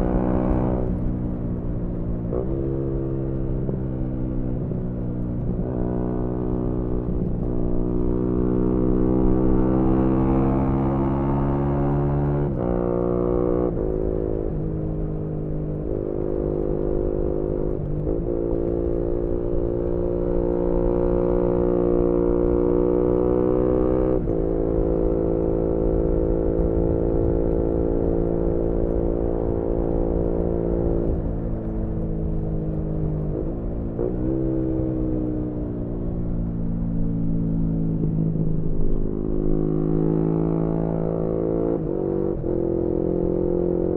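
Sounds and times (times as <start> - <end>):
motorcycle engine while riding: 0.0 - 43.9
wind rumble on microphone: 0.0 - 43.9.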